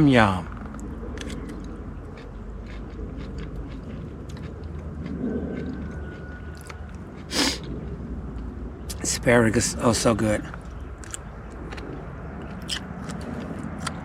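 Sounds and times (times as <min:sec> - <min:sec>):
person chewing food: 0:00.6 - 0:09.0, 0:10.6 - 0:14.0.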